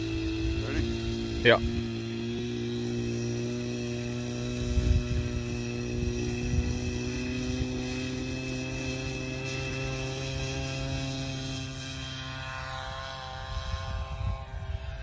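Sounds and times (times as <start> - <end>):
model airplane motor humming: 0.0 - 15.0.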